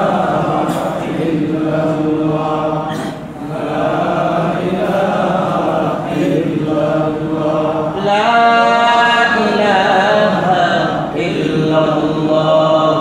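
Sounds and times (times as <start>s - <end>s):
person chanting melodically: 0.0s - 13.0s.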